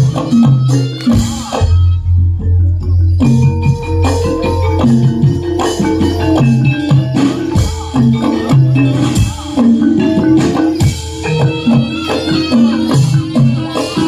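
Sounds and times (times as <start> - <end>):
pitched metal percussion: 0.0 - 14.0.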